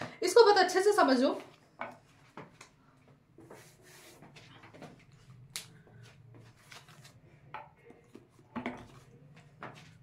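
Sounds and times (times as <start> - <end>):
faint room noise: 0.0 - 10.0.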